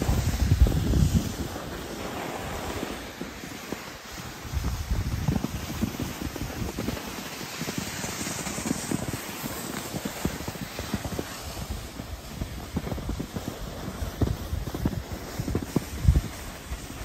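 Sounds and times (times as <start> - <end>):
skis sliding over snow: 0.0 - 17.0
wind buffeting microphone: 0.0 - 17.0.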